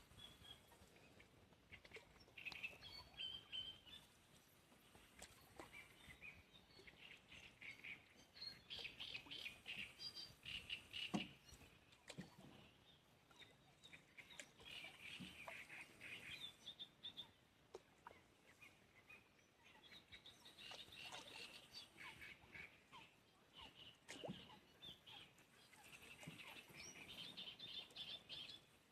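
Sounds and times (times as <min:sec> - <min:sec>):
birds chirping faintly: 0:00.0 - 0:28.9.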